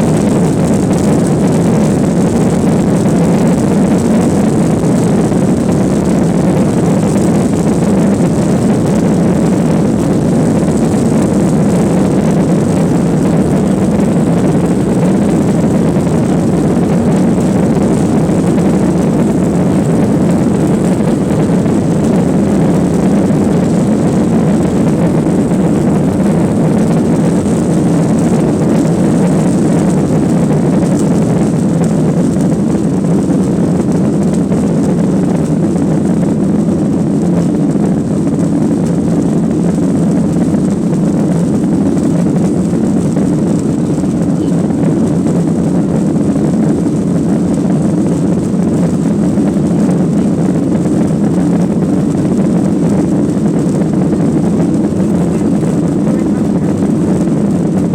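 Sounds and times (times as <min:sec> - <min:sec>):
airplane cabin engine and airflow noise: 0:00.0 - 0:57.9.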